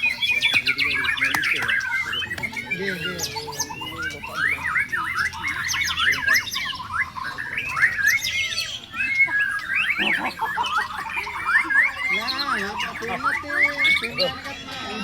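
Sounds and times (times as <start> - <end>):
bird singing whistled song: 0.0 - 15.0.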